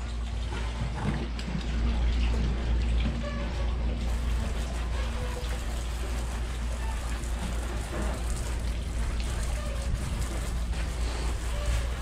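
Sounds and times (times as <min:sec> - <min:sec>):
steady low hum: 0:00.0 - 0:12.0
water running from garden hose: 0:00.0 - 0:12.0.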